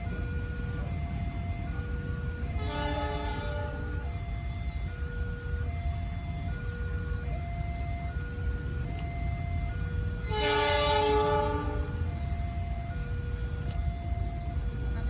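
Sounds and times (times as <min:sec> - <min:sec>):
level crossing alarm tones: 0:00.0 - 0:15.0.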